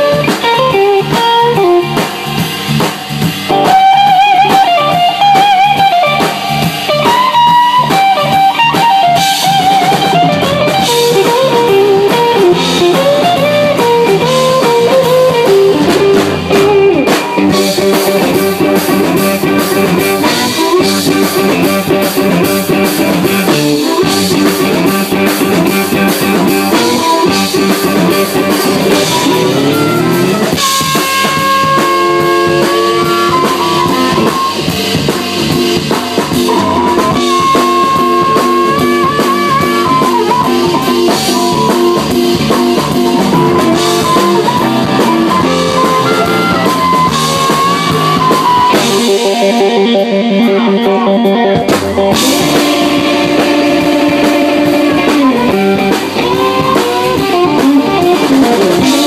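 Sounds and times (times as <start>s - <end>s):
drum kit beat: 0.0s - 59.0s
electric guitar: 0.0s - 59.0s.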